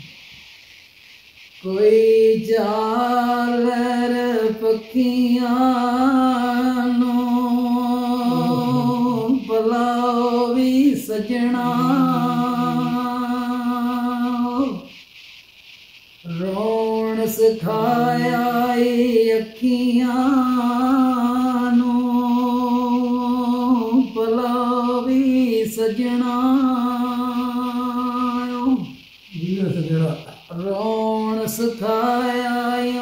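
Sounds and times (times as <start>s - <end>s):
man singing unaccompanied: 1.7s - 14.9s, 16.3s - 28.9s, 30.4s - 33.0s.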